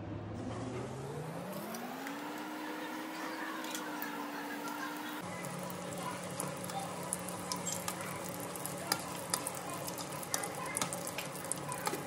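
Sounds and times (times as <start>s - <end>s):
chicken sizzling in hot oil: 1.5s - 12.0s
metal skimmer stirring in pan: 1.7s - 12.0s.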